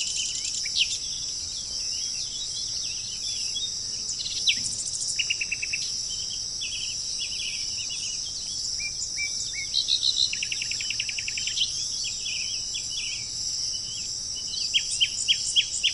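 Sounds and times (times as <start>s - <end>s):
high insect drone: 0.0s - 15.9s
small birds chirping and trilling: 0.0s - 15.9s.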